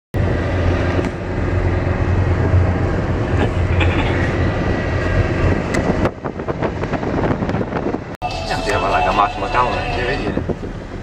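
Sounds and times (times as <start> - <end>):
car engine and road drone: 0.2 - 11.0.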